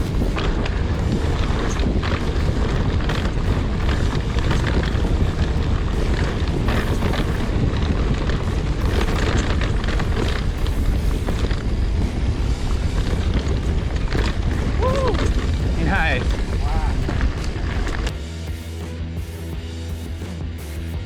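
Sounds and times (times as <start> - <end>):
wind buffeting microphone: 0.0 - 18.1
bike knocking and rattling: 0.0 - 18.6.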